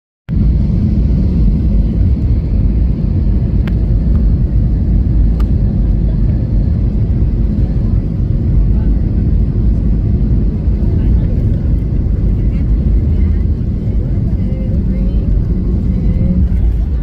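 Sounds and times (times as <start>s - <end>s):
airliner cabin noise: 0.3s - 17.0s.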